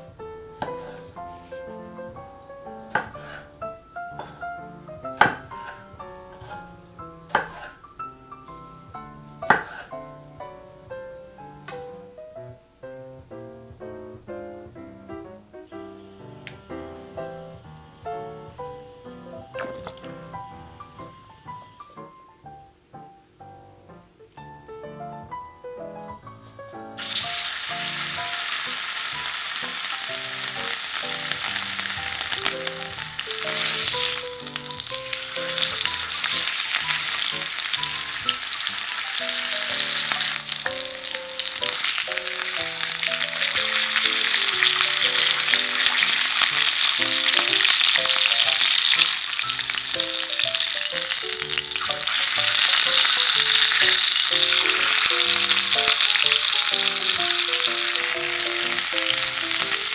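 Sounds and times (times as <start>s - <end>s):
steak sizzling in a skillet: 0.6s - 10.0s, 15.7s - 22.1s, 27.0s - 59.9s.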